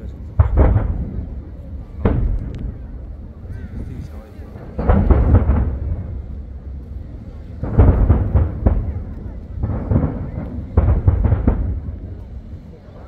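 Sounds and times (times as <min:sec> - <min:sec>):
firework shells booming: 0:00.0 - 0:13.0
steady low rumble: 0:00.0 - 0:13.0.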